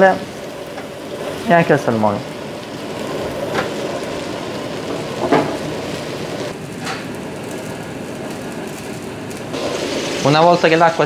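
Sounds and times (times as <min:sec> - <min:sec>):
sizzling and bubbling in pan: 0:00.0 - 0:11.0.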